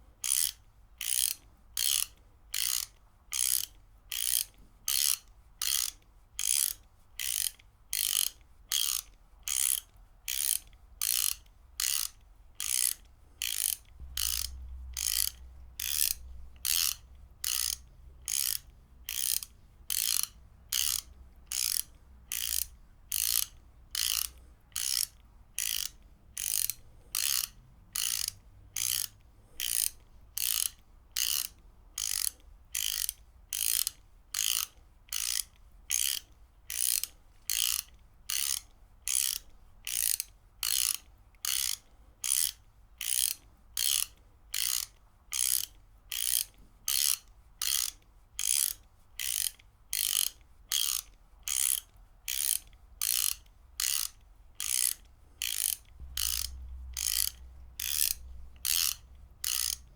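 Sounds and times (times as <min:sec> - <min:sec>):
ratchet wrench clicking: 0:00.2 - 0:59.9.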